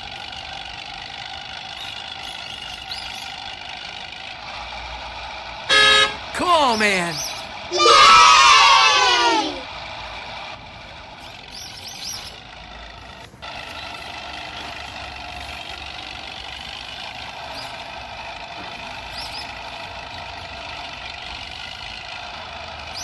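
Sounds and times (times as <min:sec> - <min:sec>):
steady mechanical running: 0:00.0 - 0:23.0.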